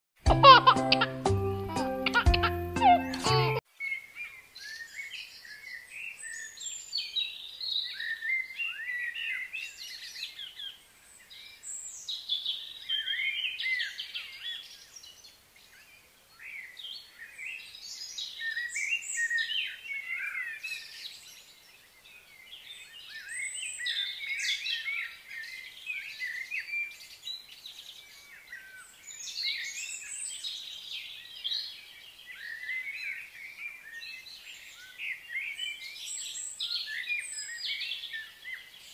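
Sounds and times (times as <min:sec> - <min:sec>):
birds chirping and singing: 0:00.4 - 0:38.9.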